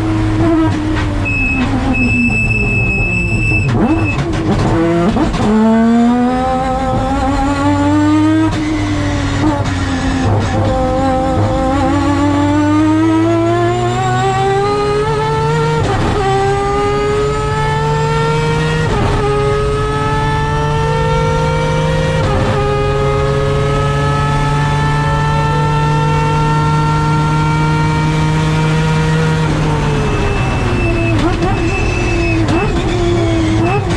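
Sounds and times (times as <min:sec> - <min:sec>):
rotary race car engine at full throttle: 0:00.0 - 0:33.9.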